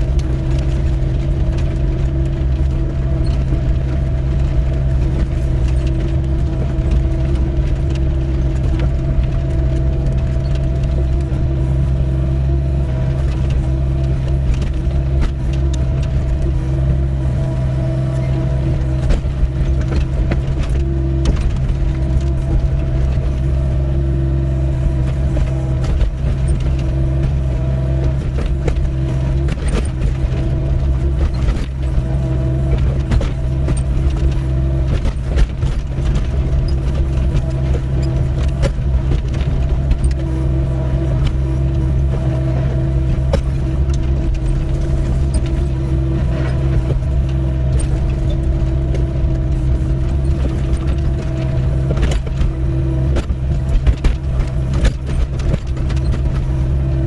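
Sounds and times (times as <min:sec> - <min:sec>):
excavator diesel engine running: 0:00.0 - 0:57.0
digging knocks and scrapes: 0:04.6 - 0:57.0.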